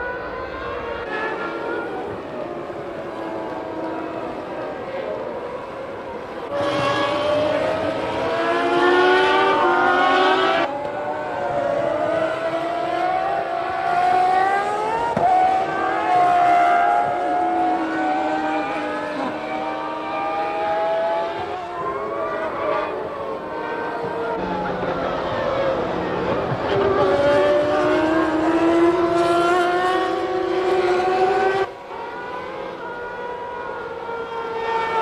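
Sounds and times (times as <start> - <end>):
racing car engines revving: 0.0 - 35.0.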